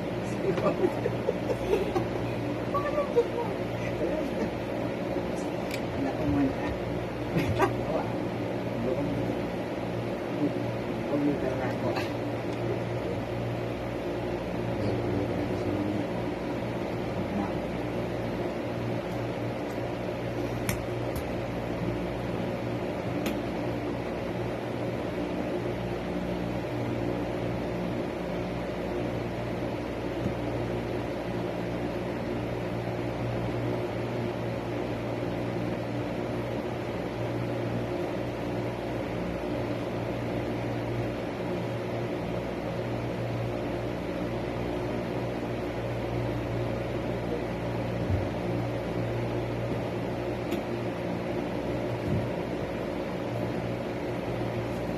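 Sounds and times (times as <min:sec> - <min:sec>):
electric fan humming: 0:00.0 - 0:54.9.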